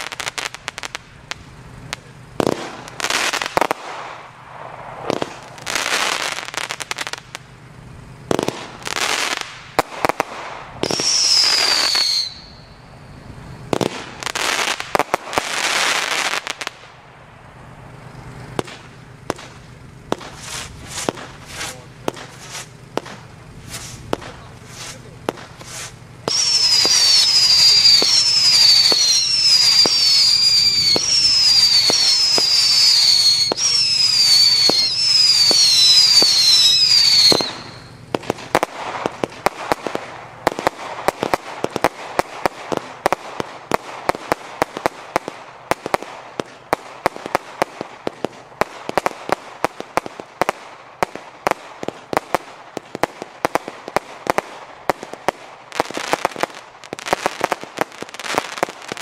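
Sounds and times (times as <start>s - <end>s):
firework crackling: 0.0s - 59.0s
firework shots with whistles: 0.0s - 59.0s
sharp firework pops: 0.0s - 59.0s.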